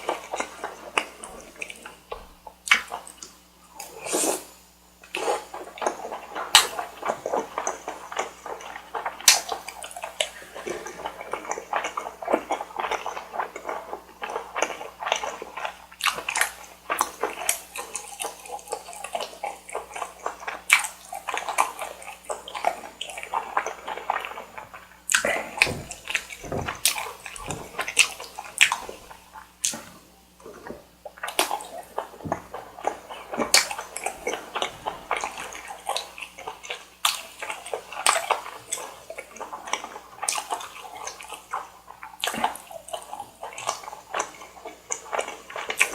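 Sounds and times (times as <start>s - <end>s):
slurping: 0.0s - 45.9s
wet chewing: 0.0s - 45.9s
mouth smacks: 0.1s - 45.9s.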